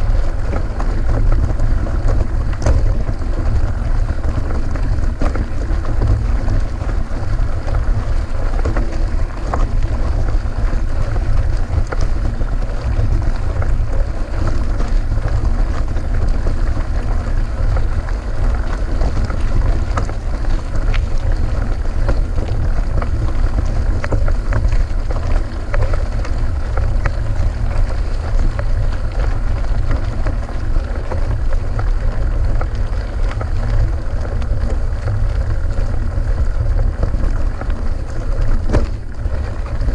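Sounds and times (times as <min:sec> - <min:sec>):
small clicks and rattles: 0:00.0 - 0:39.9
wind buffeting microphone: 0:00.0 - 0:39.9.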